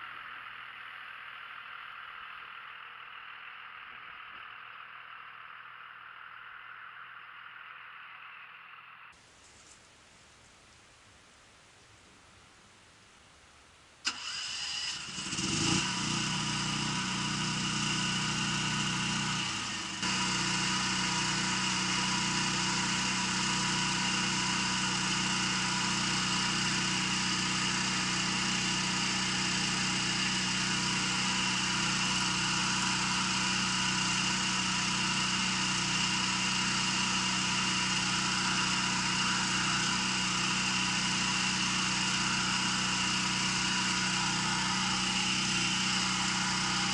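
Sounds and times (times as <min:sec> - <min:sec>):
engine starting and running: 0:00.0 - 0:46.9.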